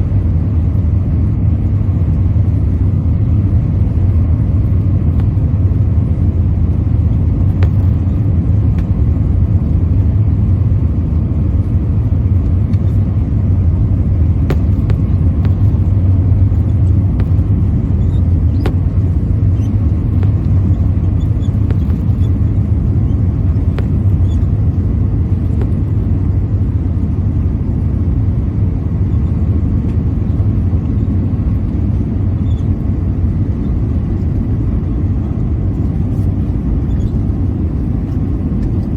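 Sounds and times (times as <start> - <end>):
jet engine and airflow rumble: 0.0 - 38.9.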